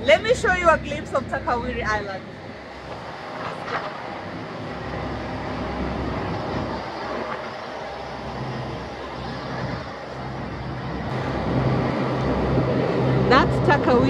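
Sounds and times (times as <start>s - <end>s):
ferry engines droning: 0.0s - 14.0s
low hum: 0.0s - 14.0s
rushing water and air: 0.0s - 14.0s.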